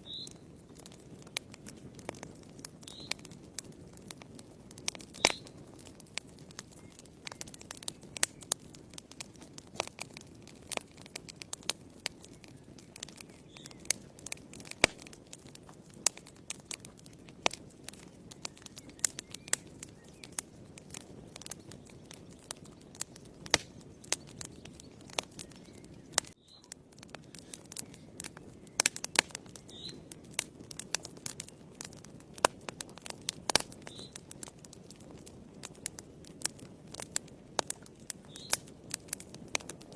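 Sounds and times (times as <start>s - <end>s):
fire crackling and popping: 0.0s - 39.9s
low hiss of flames: 0.0s - 39.9s.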